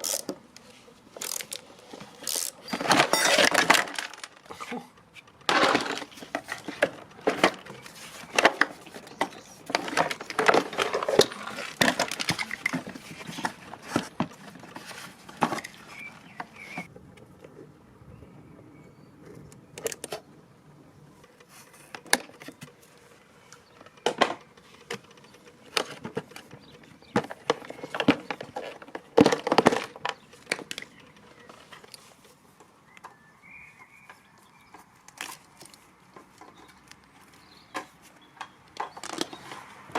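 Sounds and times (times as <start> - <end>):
plastic and metal parts clattering: 0.0 - 16.9, 21.3 - 32.1, 35.1 - 39.9.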